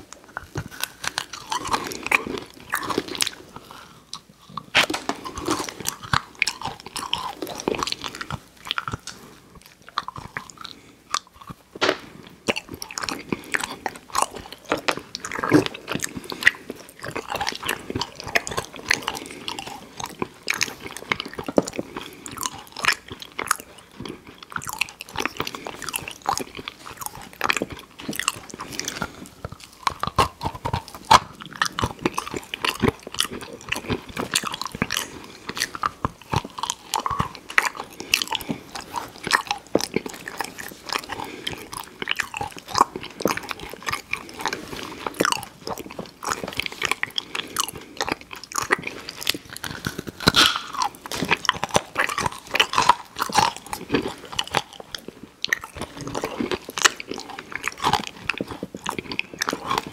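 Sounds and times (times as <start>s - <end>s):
person chewing crunchy candy: 0.0s - 59.9s.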